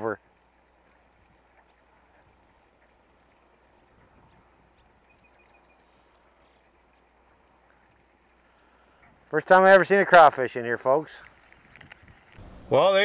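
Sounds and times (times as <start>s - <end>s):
high insect trill: 0.0s - 10.6s.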